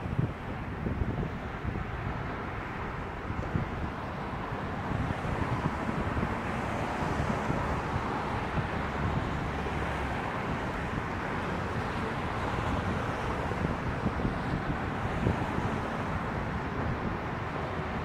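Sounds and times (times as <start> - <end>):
expressway traffic hiss: 0.0 - 18.0
wind buffeting microphone: 0.0 - 18.0.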